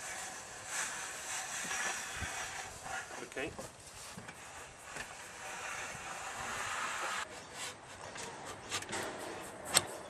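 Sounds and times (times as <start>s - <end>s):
rocket scraping along metal rail: 0.0s - 10.0s.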